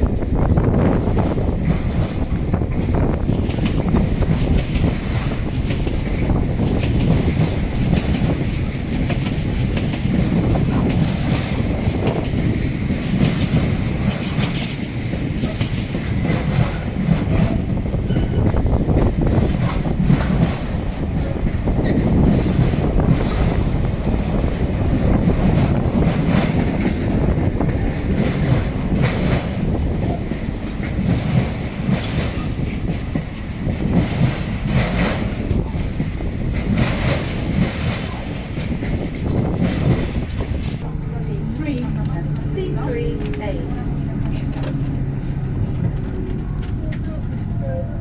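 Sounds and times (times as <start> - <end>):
freight train rumbling past: 0.0 - 48.0
train wheels clicking: 0.0 - 48.0.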